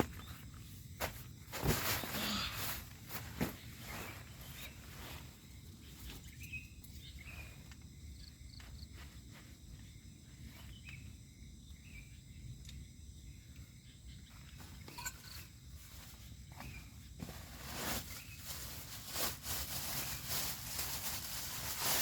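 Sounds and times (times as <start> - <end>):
insect chirps: 0.0 - 22.0.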